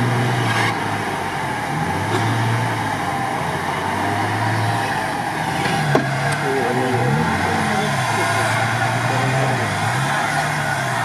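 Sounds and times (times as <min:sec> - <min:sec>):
truck engine revving under load: 0:00.0 - 0:11.0.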